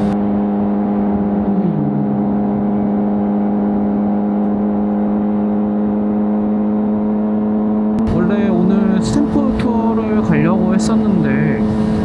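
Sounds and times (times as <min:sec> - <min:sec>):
motorcycle engine running: 0:00.0 - 0:02.1, 0:04.0 - 0:12.0.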